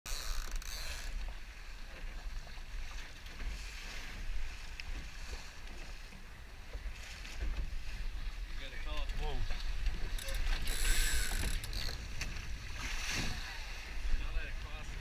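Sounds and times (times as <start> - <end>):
water rushing along hull: 0.1 - 15.0
wind rumbling on microphone: 2.1 - 15.0.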